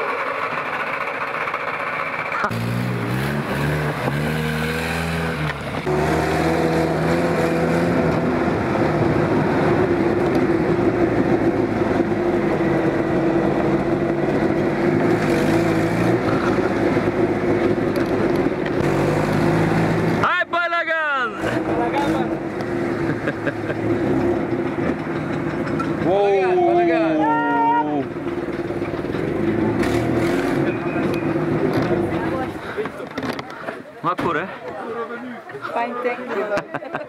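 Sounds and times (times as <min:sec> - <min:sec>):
off-road vehicle engine running: 0:00.0 - 0:34.6.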